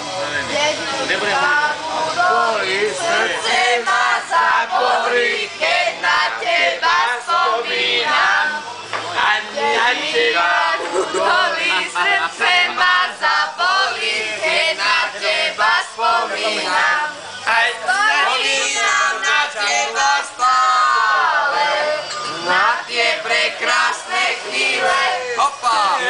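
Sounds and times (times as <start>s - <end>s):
group of men and women singing: 1.0s - 26.0s.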